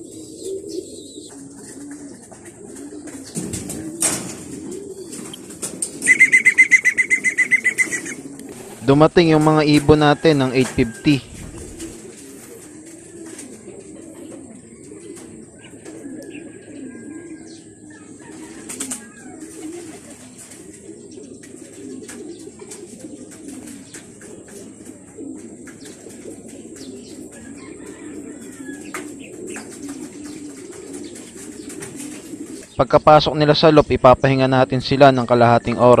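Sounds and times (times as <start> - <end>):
pigeons cooing: 0.0 - 36.0
wings flapping: 1.3 - 16.2, 18.2 - 32.7.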